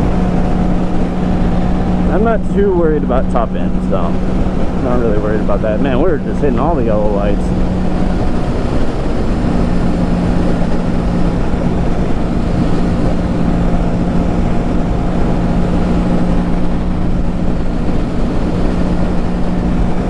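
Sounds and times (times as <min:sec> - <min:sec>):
motorcycle engine humming: 0:00.0 - 0:20.0
wind rumble on microphone: 0:00.0 - 0:20.0.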